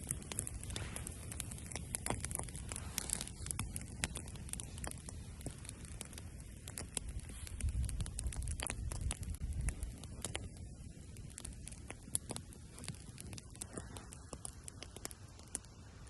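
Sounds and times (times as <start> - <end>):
wind rumble on microphone: 0.0 - 14.4
campfire crackling and popping: 0.0 - 16.0.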